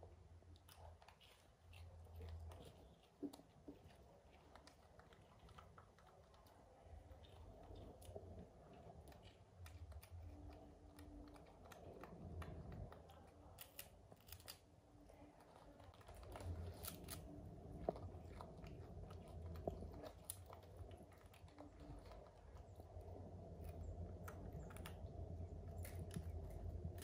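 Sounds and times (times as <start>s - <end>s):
small clicks and crackles: 0.1s - 27.0s
crunching and chewing wafers: 0.2s - 27.0s.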